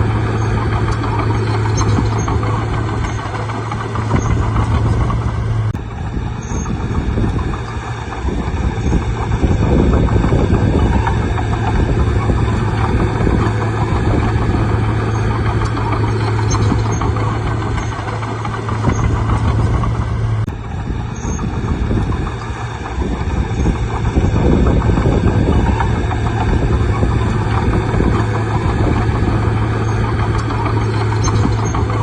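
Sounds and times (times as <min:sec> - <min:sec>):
bulldozer diesel engine humming: 0:00.0 - 0:32.0
machine clatter and grinding: 0:00.0 - 0:32.0.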